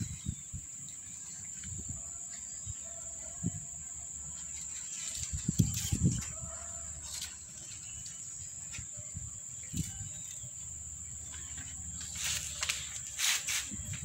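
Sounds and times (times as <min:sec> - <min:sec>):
high-pitched insect drone: 0:00.0 - 0:14.0
low outdoor hum: 0:00.0 - 0:14.0
rustling hiss: 0:00.0 - 0:14.0.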